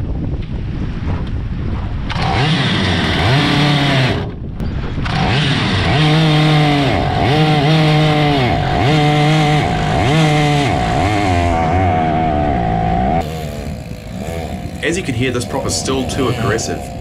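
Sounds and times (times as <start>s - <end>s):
wind: 0.0s - 17.0s
two-stroke boat engine: 2.1s - 4.4s, 5.0s - 17.0s.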